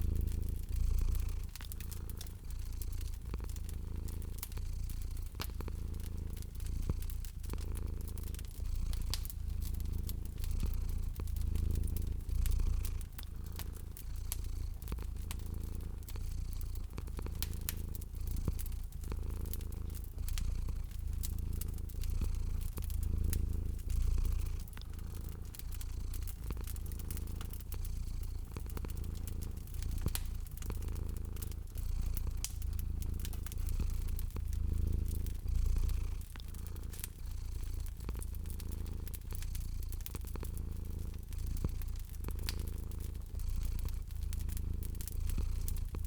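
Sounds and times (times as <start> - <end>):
cat purring: 0.0 - 46.0
wood fire crackling: 0.0 - 46.0.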